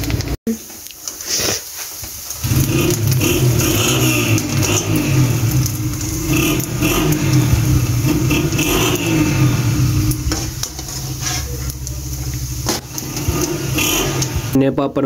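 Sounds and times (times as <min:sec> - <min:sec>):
food sizzling in hot oil: 0:00.0 - 0:14.6
loud steady motor hum: 0:02.4 - 0:14.6.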